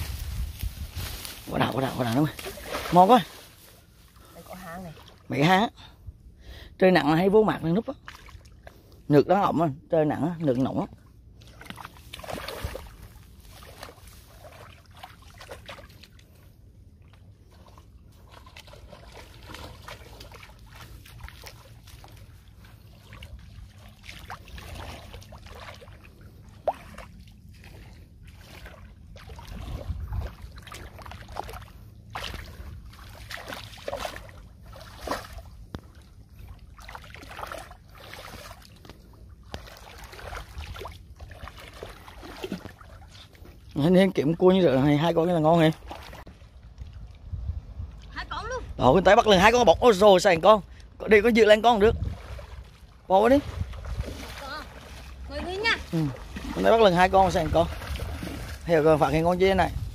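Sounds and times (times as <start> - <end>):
small water splashes: 0.0 - 6.0, 7.2 - 9.4, 10.2 - 59.9
water sloshing and trickling: 0.0 - 59.9.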